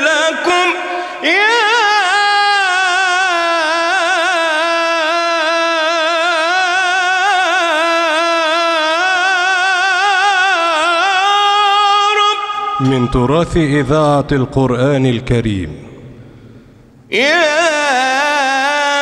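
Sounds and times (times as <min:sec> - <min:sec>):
man singing with wavering trills: 0:00.0 - 0:19.0.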